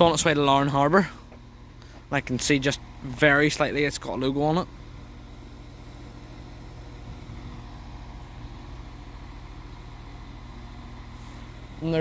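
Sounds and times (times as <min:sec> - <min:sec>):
diesel train engines idling: 0:00.0 - 0:12.0.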